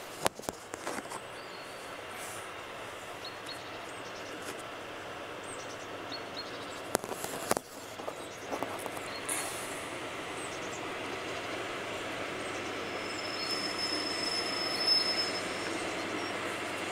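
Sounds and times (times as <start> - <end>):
diesel train rumble: 0.0 - 16.9.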